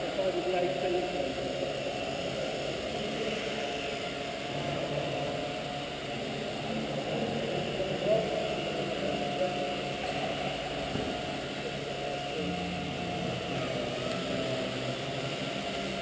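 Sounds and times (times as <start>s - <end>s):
model helicopter rotor whine: 0.0s - 16.0s.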